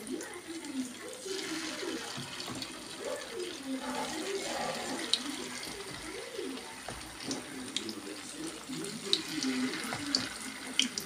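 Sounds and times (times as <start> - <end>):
faint voice: 0.0 - 11.0
food sizzling in hot oil: 0.0 - 11.0.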